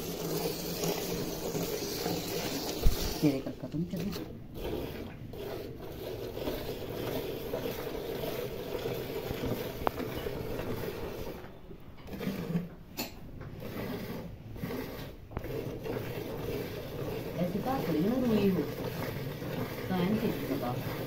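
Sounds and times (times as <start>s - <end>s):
milk squirting into bucket: 0.0s - 21.0s.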